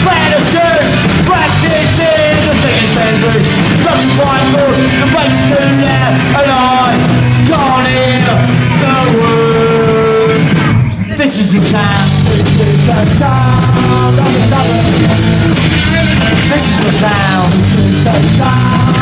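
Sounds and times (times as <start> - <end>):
bass guitar: 0.0 - 19.0
drums: 0.0 - 19.0
lead guitar bending notes: 0.0 - 19.0.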